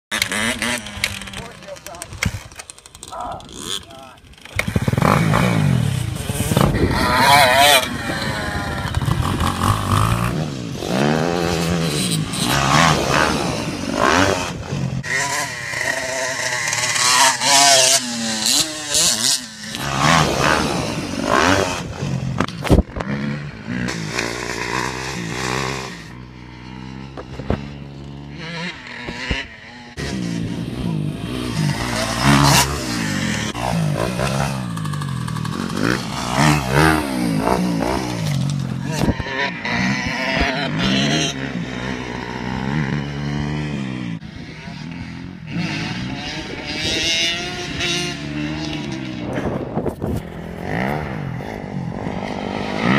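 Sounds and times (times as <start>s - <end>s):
dirt bike engines revving: 0.1s - 52.9s.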